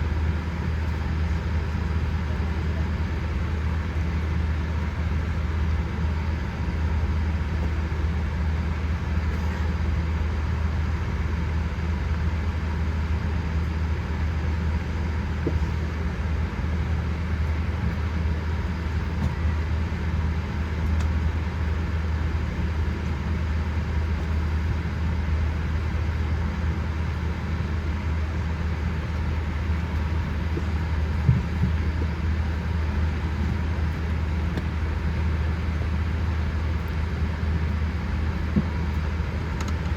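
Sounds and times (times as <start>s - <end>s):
airliner cabin hum: 0.0s - 39.9s.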